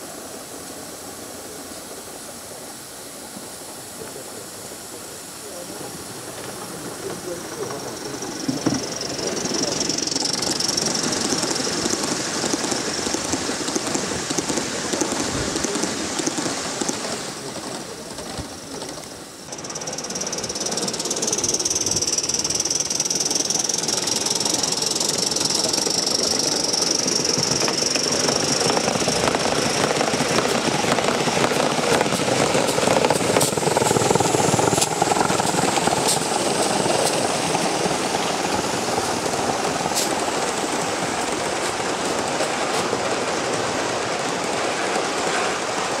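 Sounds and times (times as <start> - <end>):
model steam locomotive chuffing: 0.0 - 46.0
steady high hiss: 0.0 - 46.0
wheels clattering on rails: 5.4 - 46.0.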